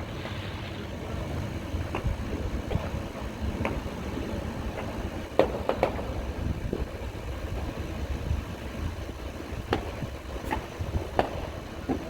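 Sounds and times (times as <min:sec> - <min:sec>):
firework bangs: 0:00.0 - 0:12.0
low steady rumble: 0:00.0 - 0:12.0.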